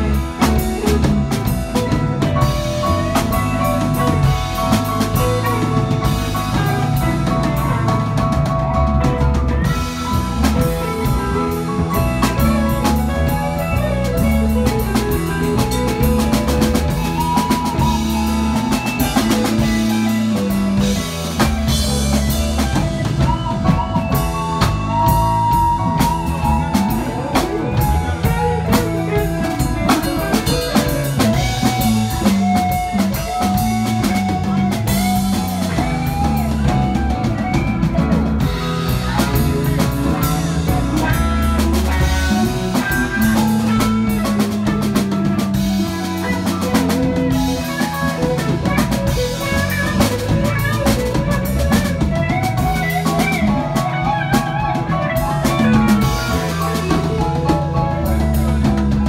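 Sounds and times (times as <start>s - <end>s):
drum kit: 0.0s - 59.0s
electric guitar lead lines: 0.0s - 59.0s
keyboards: 0.0s - 59.0s.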